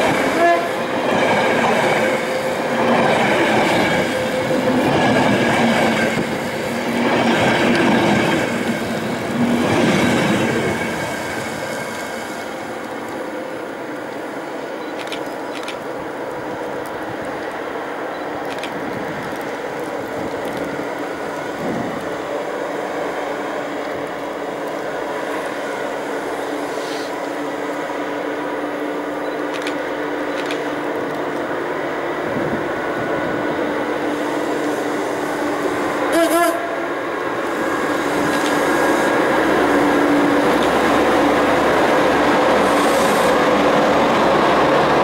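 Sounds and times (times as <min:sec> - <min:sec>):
locomotive engine hum: 0:00.0 - 0:45.0.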